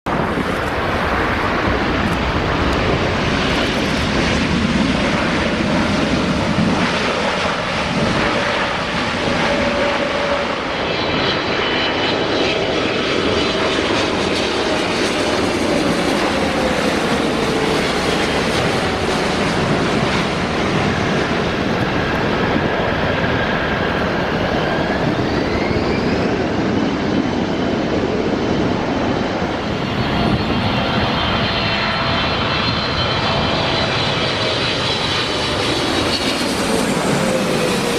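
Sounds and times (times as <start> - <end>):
jet engine roar: 0.0 - 37.9
jet engine whine: 0.0 - 37.9.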